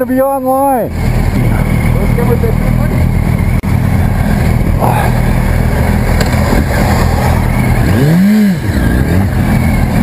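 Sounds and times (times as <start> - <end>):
motorcycle engine running: 0.0 - 10.0
wind rumble: 0.9 - 10.0.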